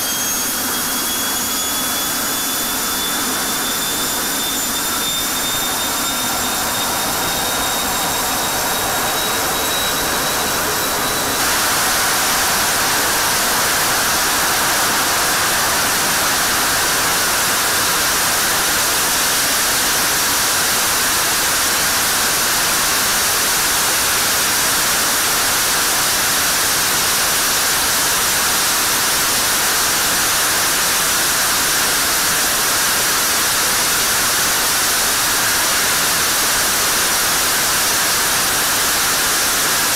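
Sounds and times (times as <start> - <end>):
jet engine roar: 0.0 - 39.9
turbine whine: 0.0 - 39.9.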